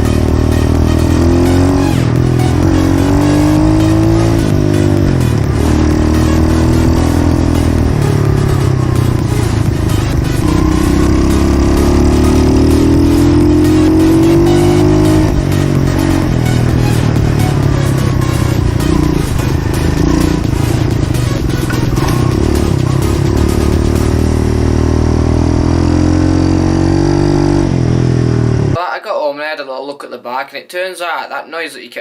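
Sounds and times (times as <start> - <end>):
pit bike engine revving: 0.0 - 28.8.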